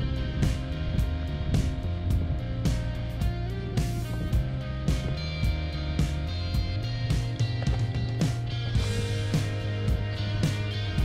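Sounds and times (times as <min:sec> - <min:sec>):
music with held notes and beat: 0:00.0 - 0:11.0.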